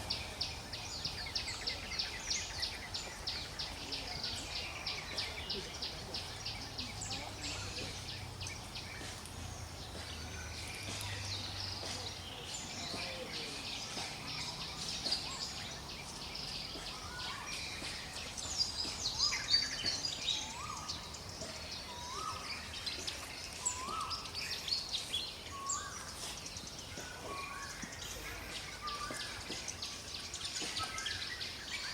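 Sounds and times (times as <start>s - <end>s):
birds chirping and trilling: 0.0s - 31.9s.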